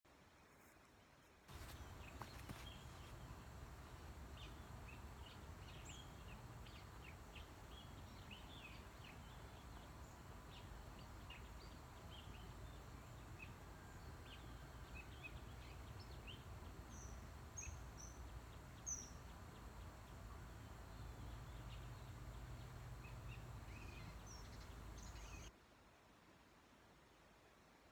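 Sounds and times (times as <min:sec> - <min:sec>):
small birds chirping: 0:01.2 - 0:25.5.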